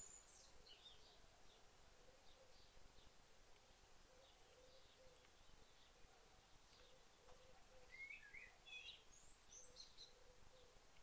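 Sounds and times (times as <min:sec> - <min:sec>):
small songbirds chirping: 0:00.0 - 0:11.0.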